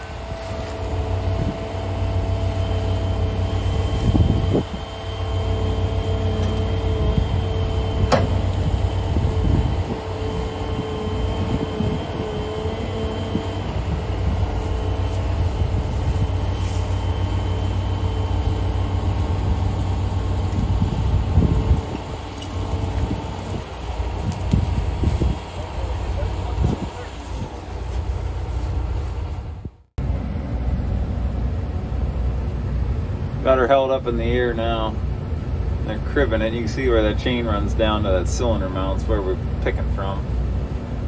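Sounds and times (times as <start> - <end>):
diesel engine running under load: 0.0 - 41.0
steady whine: 0.0 - 41.0.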